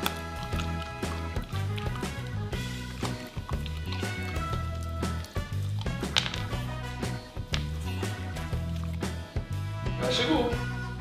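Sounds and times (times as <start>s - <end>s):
music with bass and percussion: 0.0s - 11.0s.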